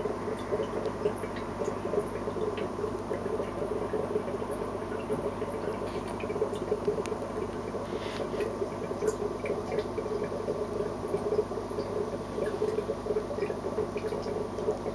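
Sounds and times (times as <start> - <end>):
aquarium pump hum: 0.0 - 14.9
water bubbling and pattering: 0.0 - 14.9.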